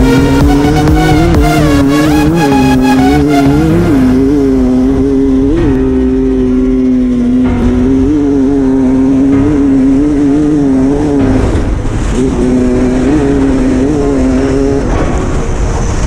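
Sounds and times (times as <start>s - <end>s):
dirt bike engine at high revs: 0.0s - 15.7s.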